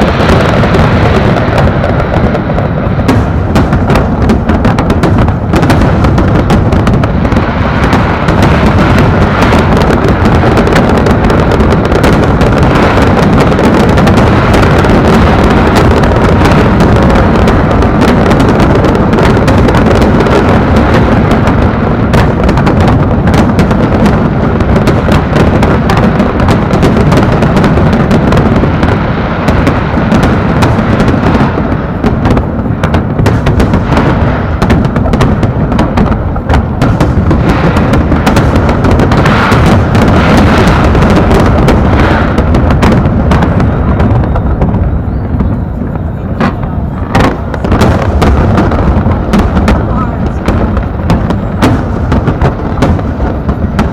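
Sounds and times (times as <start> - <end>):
fireworks bangs and booms: 0.0 - 53.9.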